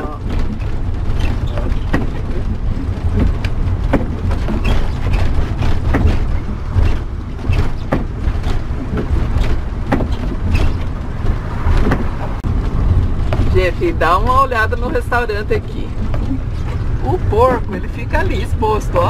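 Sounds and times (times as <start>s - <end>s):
bus engine and road rumble: 0.0s - 19.0s
knocks and rattles: 0.0s - 19.0s.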